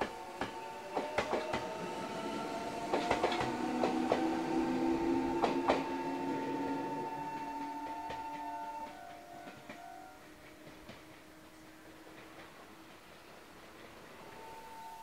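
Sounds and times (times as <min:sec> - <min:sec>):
wheels clacking over rail joints: 0:00.0 - 0:06.1, 0:07.2 - 0:14.8
electric train motors whining: 0:00.0 - 0:15.0.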